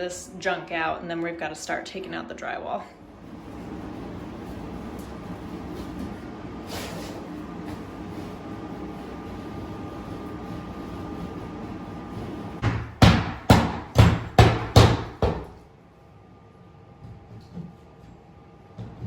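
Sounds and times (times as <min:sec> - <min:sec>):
mechanical hum with whine: 0:00.0 - 0:19.0.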